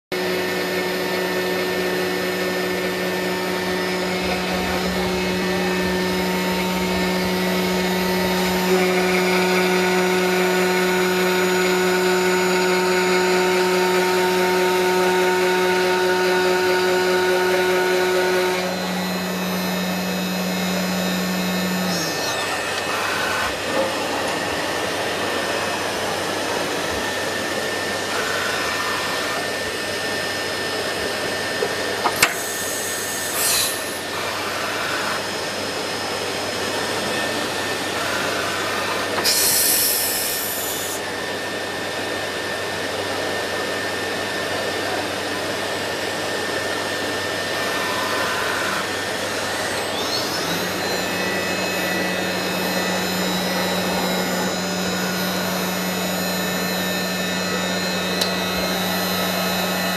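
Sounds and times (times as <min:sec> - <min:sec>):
router spindle whirring: 0:00.1 - 0:59.9.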